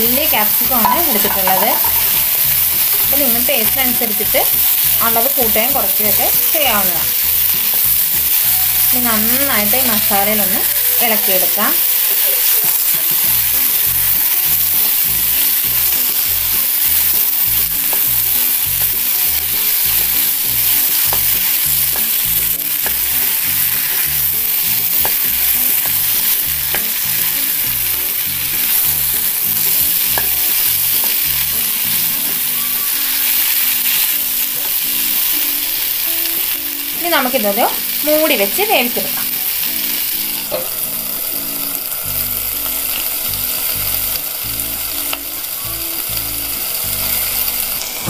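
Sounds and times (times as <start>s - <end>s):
vegetables sizzling in a pan: 0.0s - 48.0s.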